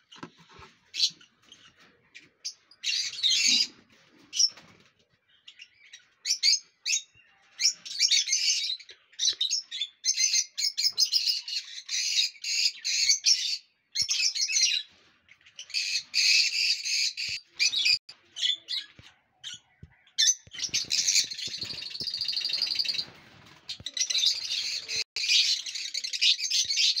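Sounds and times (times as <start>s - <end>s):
lovebirds squawking and chirping: 0.0s - 4.6s, 5.5s - 27.0s.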